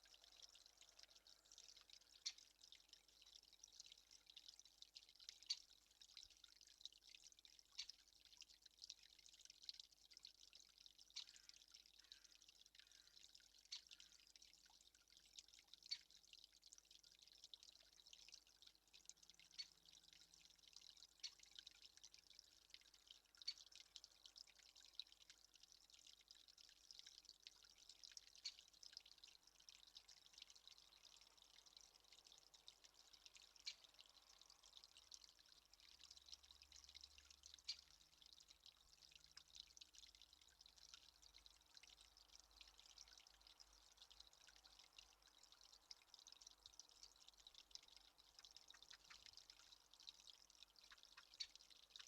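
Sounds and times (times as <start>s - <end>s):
faint dripping water: 0.0s - 52.0s
small irregular ticks: 0.0s - 52.0s
soft steady hiss: 0.0s - 52.0s.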